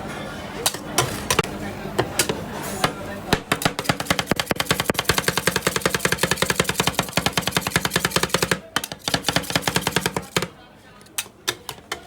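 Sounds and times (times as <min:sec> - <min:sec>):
metal spatulas chopping on steel: 0:00.6 - 0:10.5.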